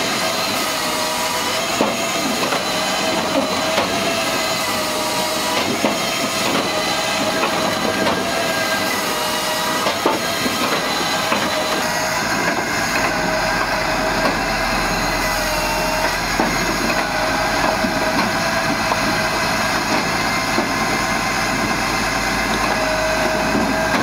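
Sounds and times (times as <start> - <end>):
tractor engine hum: 0.0 - 24.0.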